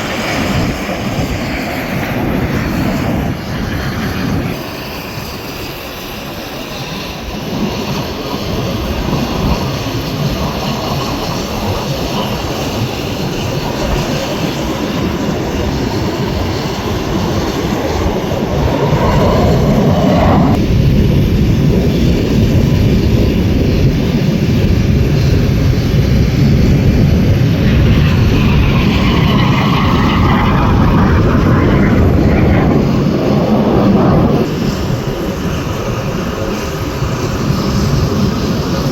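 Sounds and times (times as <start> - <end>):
jet aircraft flying past: 0.0 - 38.9.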